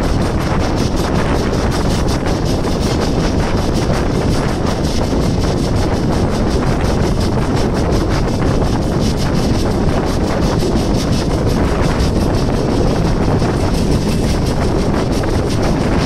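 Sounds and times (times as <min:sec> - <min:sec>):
passenger train rushing on rails: 0:00.0 - 0:16.0
wind buffeting microphone: 0:00.0 - 0:16.0.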